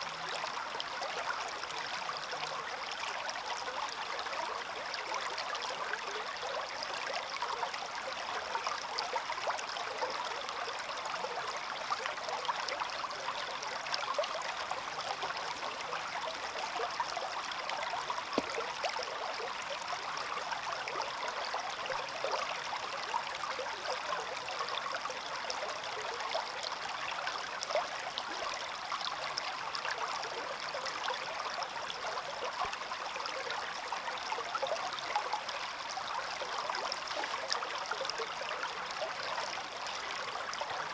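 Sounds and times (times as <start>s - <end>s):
stream running: 0.0s - 40.9s.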